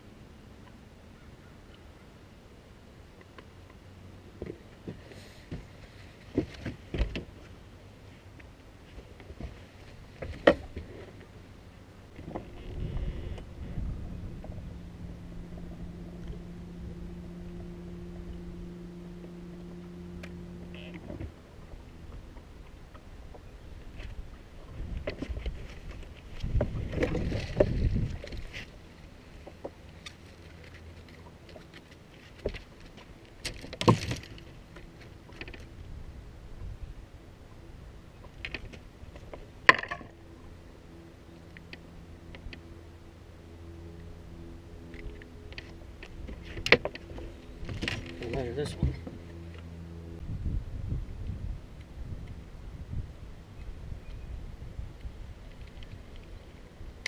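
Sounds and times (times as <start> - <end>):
low steady hum: 0.0 - 57.0
wind rumbling on microphone: 8.2 - 57.0.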